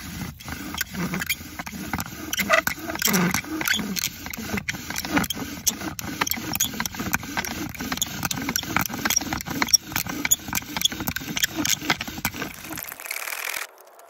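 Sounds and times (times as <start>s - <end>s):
bow drill spindle grinding: 0.0s - 13.7s.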